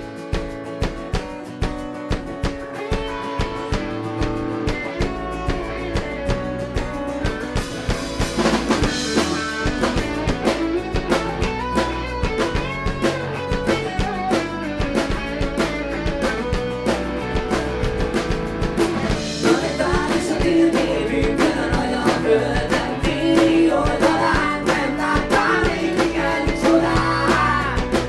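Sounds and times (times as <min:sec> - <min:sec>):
drum-kit beat: 0:00.0 - 0:28.0
rock band playing: 0:00.0 - 0:28.0.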